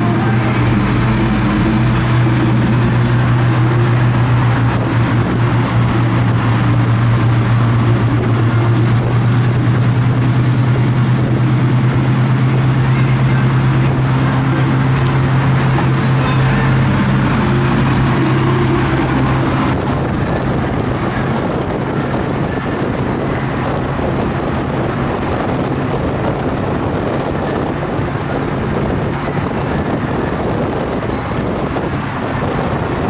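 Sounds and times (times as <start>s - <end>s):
car road noise: 0.0s - 33.0s
engine hum: 0.0s - 33.0s
wind over microphone: 0.0s - 33.0s.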